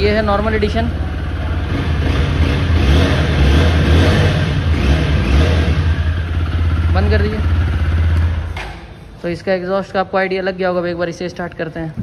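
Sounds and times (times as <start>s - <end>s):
motorcycle engine idling and revving: 0.0s - 9.7s.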